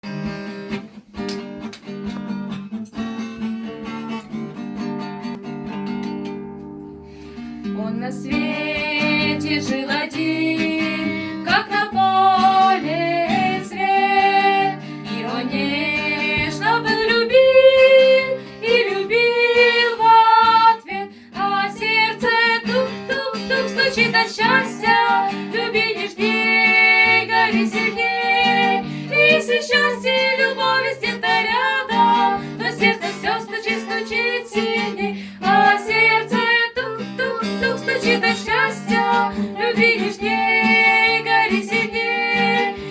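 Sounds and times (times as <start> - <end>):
acoustic guitar: 0.0 - 42.9
woman singing: 7.6 - 42.9.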